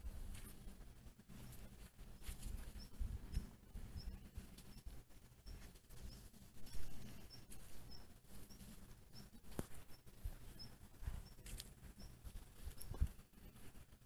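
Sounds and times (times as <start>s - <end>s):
footsteps on loose soil: 0.0s - 3.9s, 5.6s - 13.2s.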